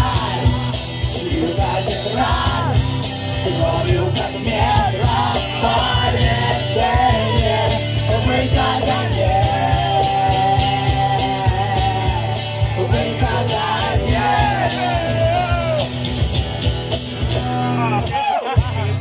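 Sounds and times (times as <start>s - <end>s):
person singing: 0.0s - 16.0s
acoustic and electric guitars: 0.0s - 19.0s
steady drum beat: 0.0s - 19.0s.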